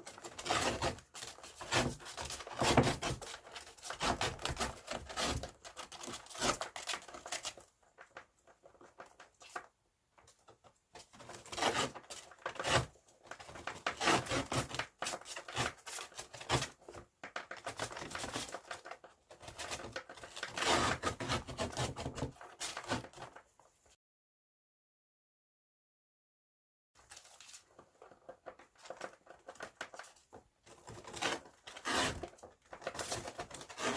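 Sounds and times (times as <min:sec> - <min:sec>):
paper bag crinkling and scratching: 0:00.0 - 0:09.7, 0:11.0 - 0:23.6, 0:27.0 - 0:33.9.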